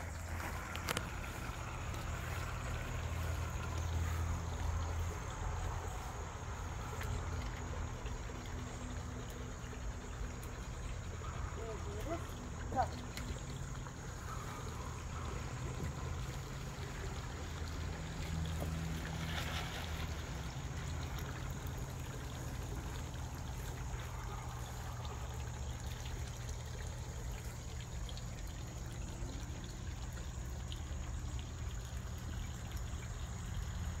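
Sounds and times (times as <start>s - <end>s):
fountain water trickling: 0.0s - 34.0s.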